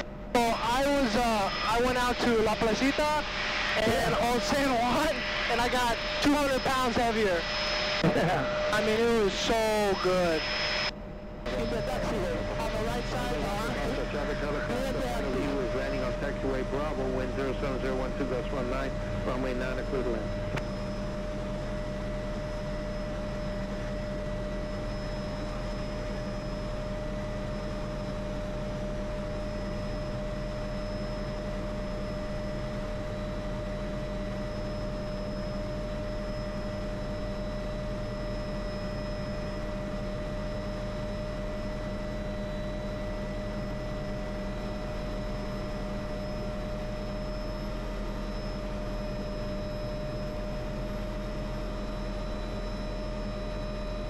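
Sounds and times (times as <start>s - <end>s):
helicopter turbine and rotor: 0.0s - 54.0s.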